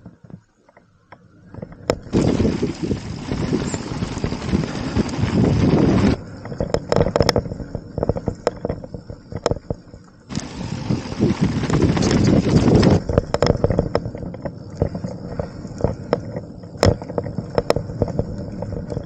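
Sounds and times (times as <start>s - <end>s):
bike clicks and rattles: 0.0s - 19.0s
wind rushing over microphone: 1.5s - 19.0s
tyres on dirt: 1.6s - 19.0s.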